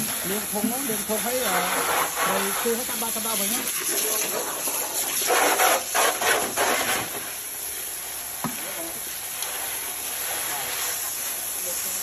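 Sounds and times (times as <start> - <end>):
hose spraying onto wet concrete: 0.0 - 12.0.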